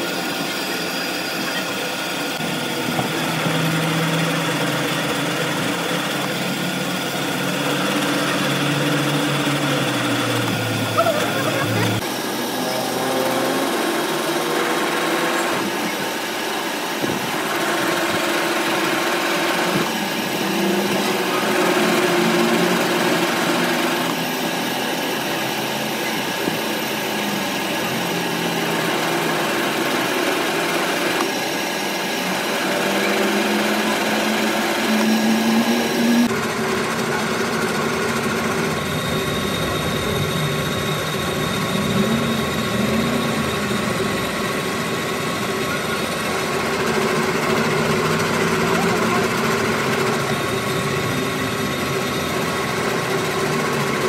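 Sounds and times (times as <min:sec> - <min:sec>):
metal lathe cutting whir: 0:00.0 - 0:54.0.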